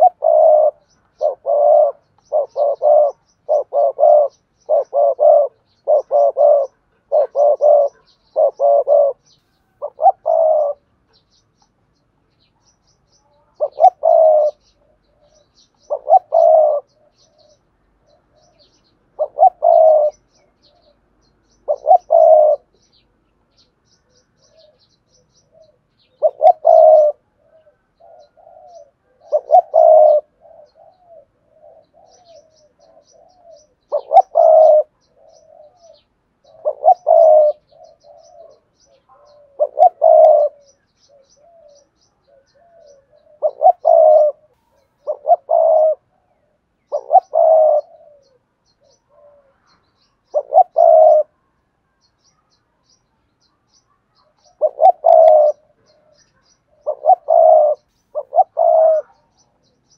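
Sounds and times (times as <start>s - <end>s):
dove cooing: 0.0s - 11.3s, 13.2s - 51.5s, 54.1s - 59.9s.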